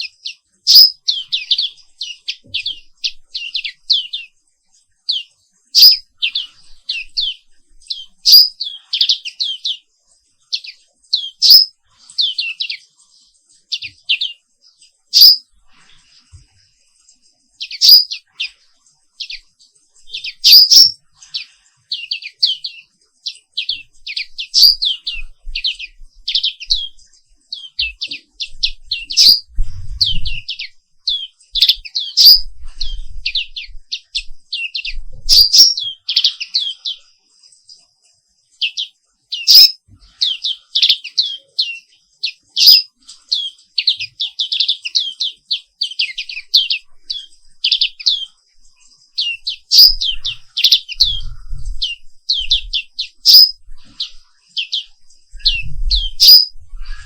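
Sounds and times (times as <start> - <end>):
white-eye bird chirping: 0.0 - 37.8, 38.5 - 57.0.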